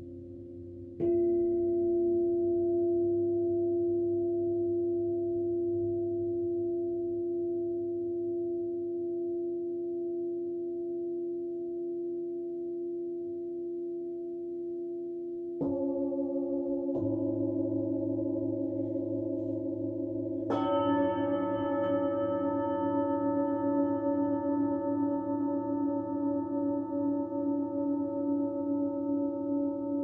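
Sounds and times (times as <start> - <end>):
singing bowl ringing: 0.0 - 30.0.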